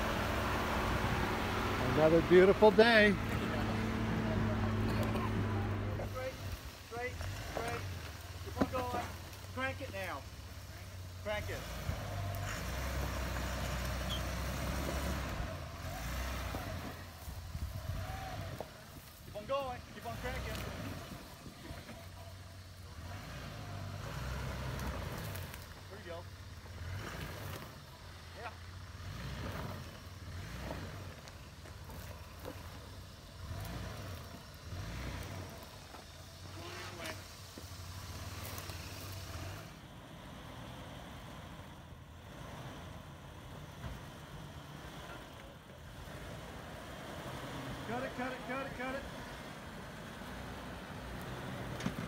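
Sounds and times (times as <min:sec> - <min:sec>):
truck engine running at low revs: 0:00.0 - 0:52.0.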